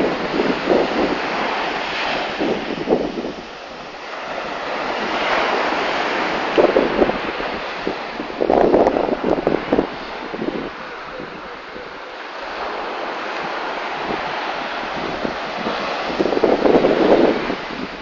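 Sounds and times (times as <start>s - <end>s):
sea surf breaking: 0.0s - 18.0s
wind buffeting microphone: 0.0s - 18.0s.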